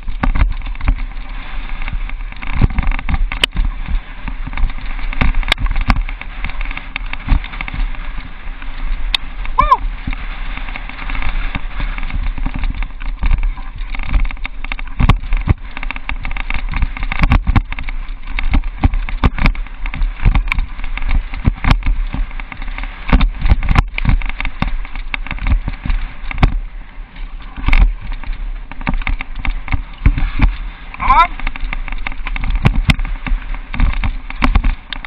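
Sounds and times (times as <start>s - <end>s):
bike knocks and rattles on bumps: 0.0s - 35.0s
mountain bike rumbling on dirt trail: 0.0s - 35.0s.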